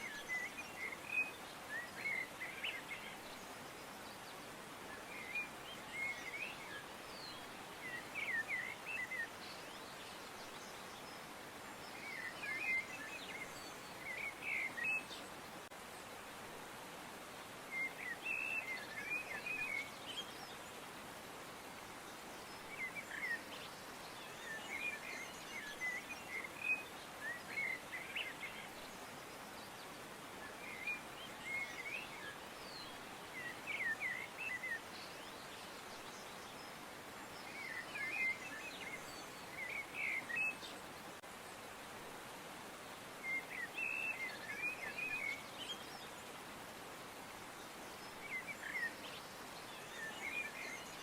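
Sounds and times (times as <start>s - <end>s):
steady background hiss: 0.0s - 51.0s.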